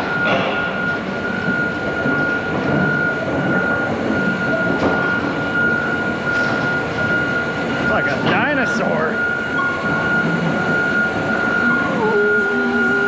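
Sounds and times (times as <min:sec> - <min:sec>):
excavator running: 0:00.0 - 0:13.0.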